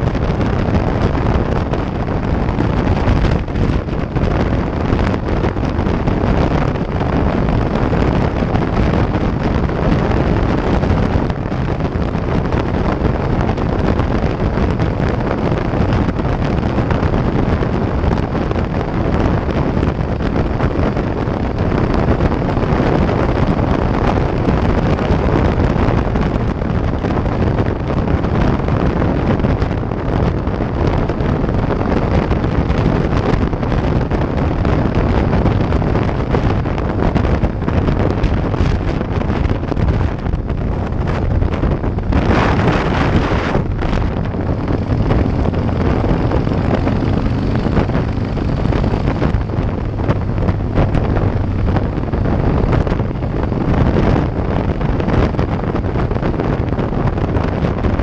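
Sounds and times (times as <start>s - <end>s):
motorcycle engine humming: 0.0s - 58.0s
wind buffeting microphone: 0.0s - 58.0s.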